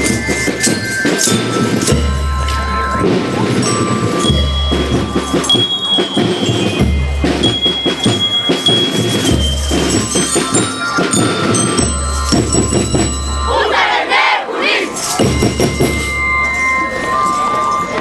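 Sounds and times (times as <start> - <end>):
bell lyres ringing a melody: 0.0 - 18.0.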